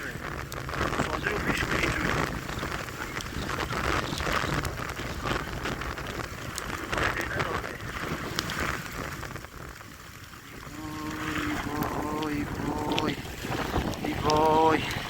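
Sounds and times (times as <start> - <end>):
heavy rain falling: 0.0 - 15.0
low rumble of wind: 0.0 - 15.0.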